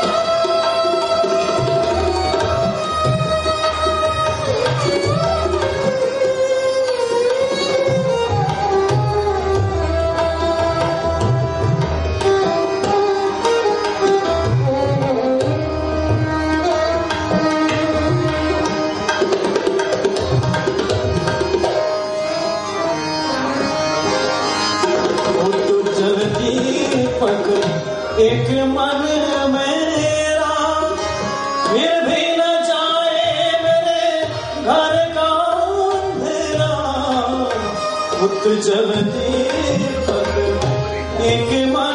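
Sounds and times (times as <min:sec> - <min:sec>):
harmonium melody: 0:00.0 - 0:41.9
tabla rhythm: 0:00.0 - 0:41.9.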